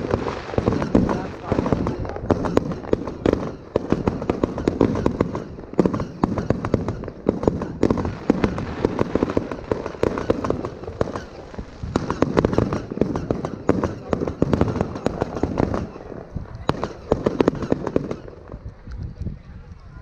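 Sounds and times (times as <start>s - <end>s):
fireworks bangs and crackles: 0.0s - 19.4s.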